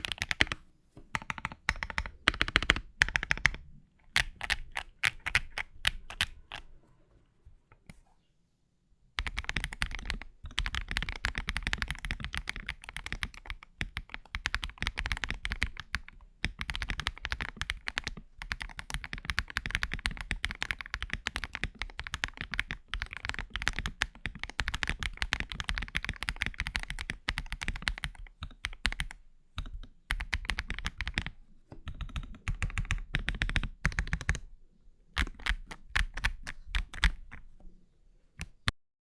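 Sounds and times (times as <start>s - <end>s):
mechanical keyboard typing: 0.0s - 6.7s, 9.2s - 34.5s, 35.2s - 37.4s.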